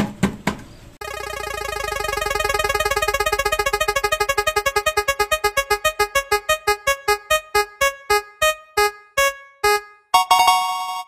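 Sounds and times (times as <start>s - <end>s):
prize wheel ticks slowing: 1.0s - 10.4s.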